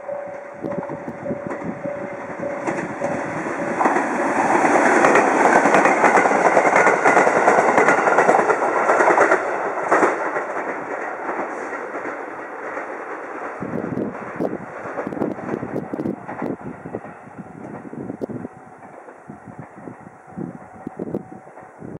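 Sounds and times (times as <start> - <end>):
train wheels clattering: 0.2 - 20.1.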